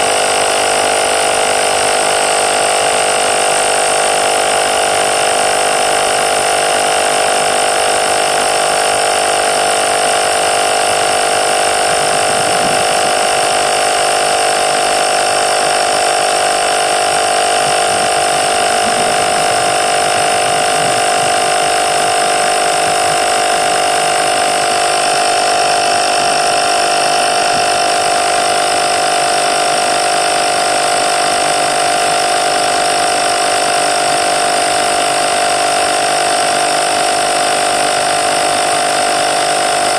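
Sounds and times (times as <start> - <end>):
small compressor whining: 0.0 - 39.9.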